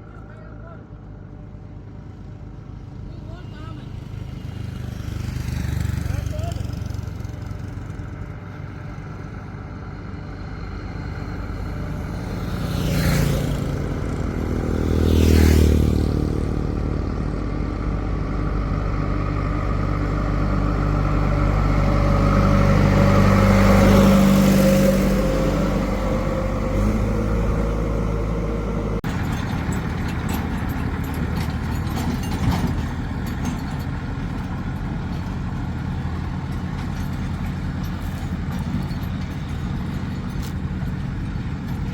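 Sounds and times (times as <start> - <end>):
diesel engines working: 0.0 - 41.9.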